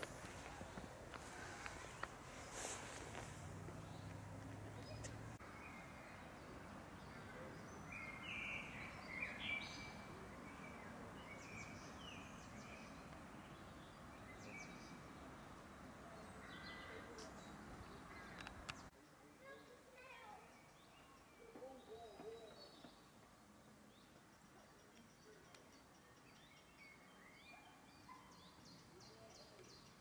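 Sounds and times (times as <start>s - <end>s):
outdoor background hiss: 0.0s - 30.0s
small birds singing and chirping: 0.0s - 30.0s.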